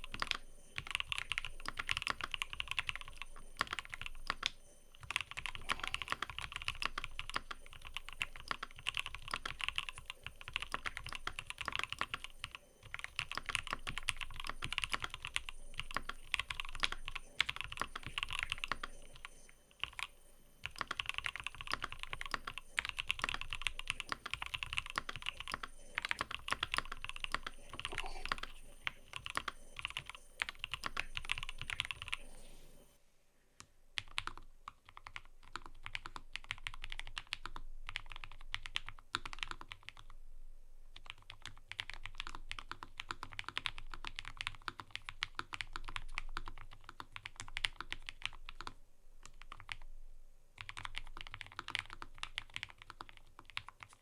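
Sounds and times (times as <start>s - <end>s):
mechanical keyboard typing: 0.0s - 32.8s, 34.0s - 40.2s, 41.0s - 49.9s, 50.6s - 54.0s.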